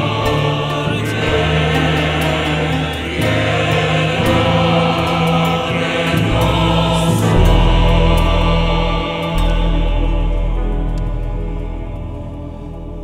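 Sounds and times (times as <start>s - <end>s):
choir singing held chords: 0.0s - 13.0s
deep bass notes: 0.0s - 13.0s
small ensemble: 0.0s - 13.0s.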